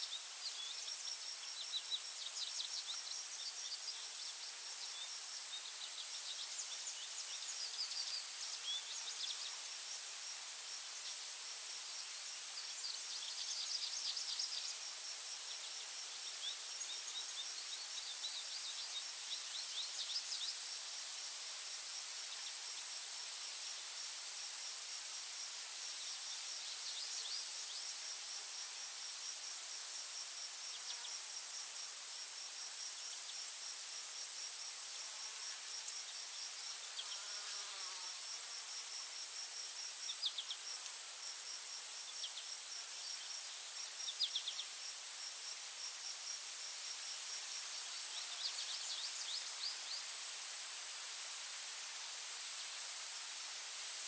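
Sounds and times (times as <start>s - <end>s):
insects droning and chirping: 0.0s - 54.0s.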